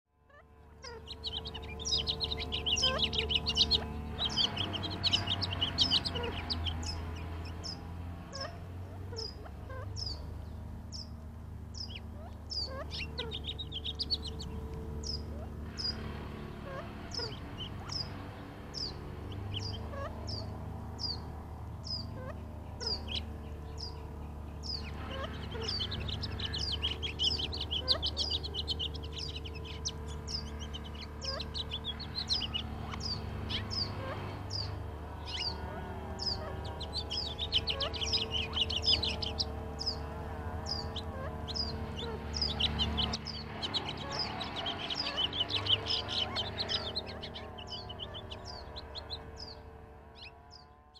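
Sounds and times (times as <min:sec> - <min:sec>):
low machine drone: 0:00.1 - 0:50.9
quail chirping: 0:00.3 - 0:50.6.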